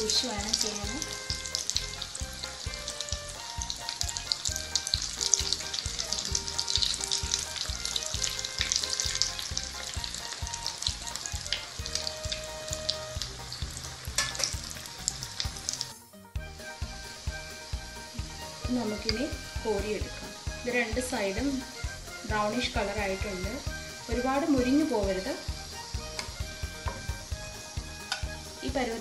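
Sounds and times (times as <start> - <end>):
chicken deep-frying in oil: 0.0 - 16.0, 17.0 - 29.0.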